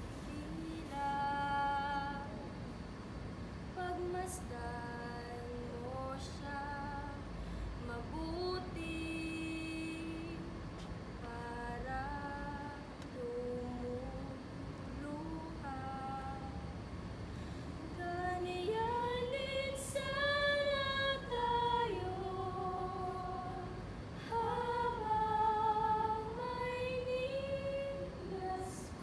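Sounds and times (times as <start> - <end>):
woman singing slow melody: 0.0 - 2.9, 3.6 - 29.0.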